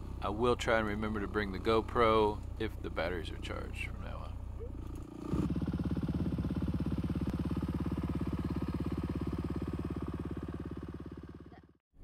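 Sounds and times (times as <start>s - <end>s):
dirt bike engine idling: 0.0s - 11.8s.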